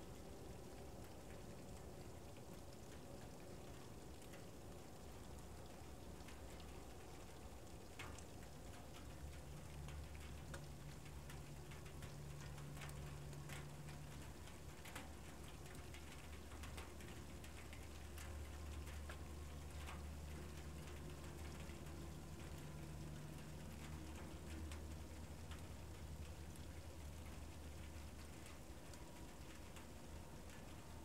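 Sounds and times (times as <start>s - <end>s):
light ticks and patters: 0.0s - 31.0s
low steady hum: 0.0s - 31.0s.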